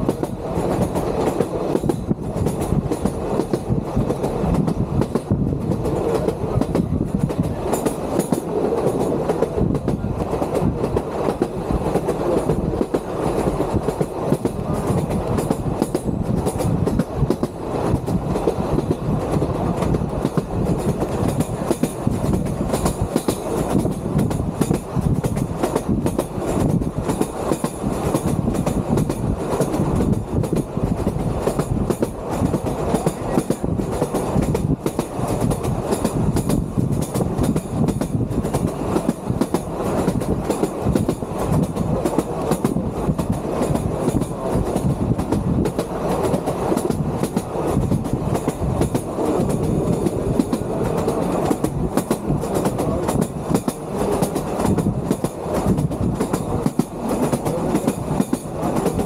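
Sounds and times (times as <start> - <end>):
electric train rumbling and rattling: 0.0 - 59.0.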